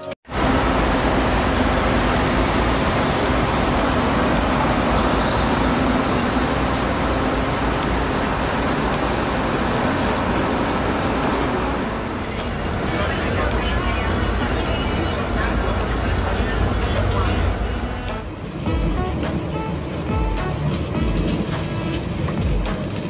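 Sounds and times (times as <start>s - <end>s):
bus engines idling: 0.0s - 23.0s
traffic noise: 0.0s - 23.0s.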